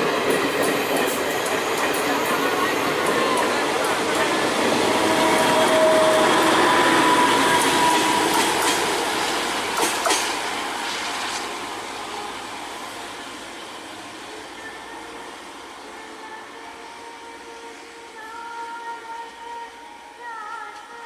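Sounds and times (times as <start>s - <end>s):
train wheels rushing on rail: 0.0s - 19.5s.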